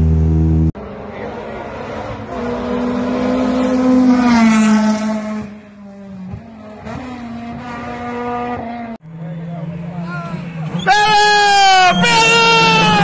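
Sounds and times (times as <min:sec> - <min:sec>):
race car engine at high revs: 0:00.0 - 0:10.9.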